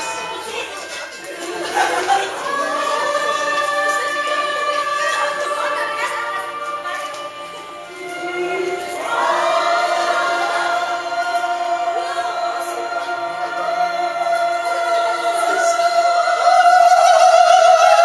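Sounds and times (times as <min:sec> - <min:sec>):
choir singing long held notes: 0:00.0 - 0:18.0.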